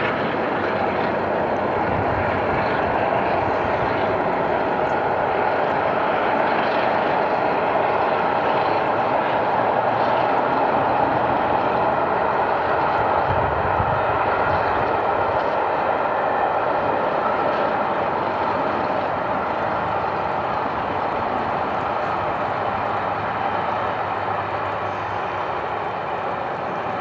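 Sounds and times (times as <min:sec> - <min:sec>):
steam locomotive exhaust rushing: 0:00.0 - 0:27.0.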